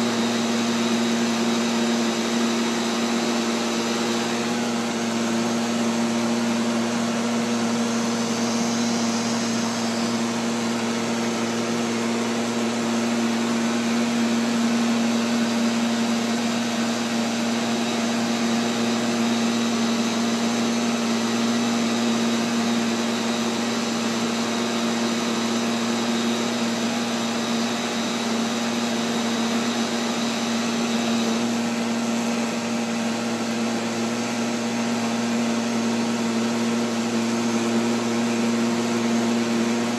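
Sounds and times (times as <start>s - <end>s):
robotic vacuum cleaner humming: 0.0s - 39.9s.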